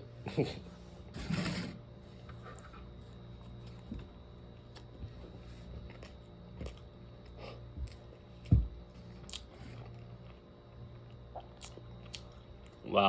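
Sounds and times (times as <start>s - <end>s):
chewing with crunches: 2.2s - 12.9s.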